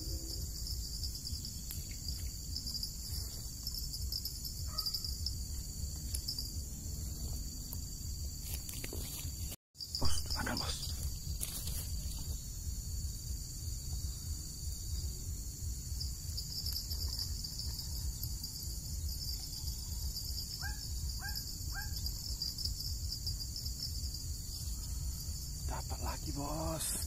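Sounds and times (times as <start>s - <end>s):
insects chorus: 0.0s - 27.0s.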